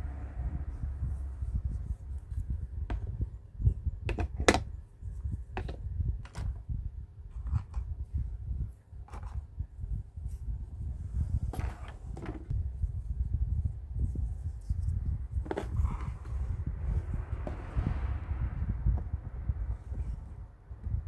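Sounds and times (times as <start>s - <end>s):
low handling rumble: 0.0s - 21.0s.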